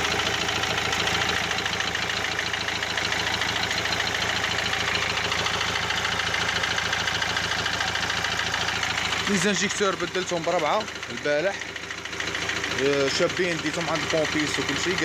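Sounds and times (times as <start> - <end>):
diesel engine idling with knocking: 0.0 - 15.0.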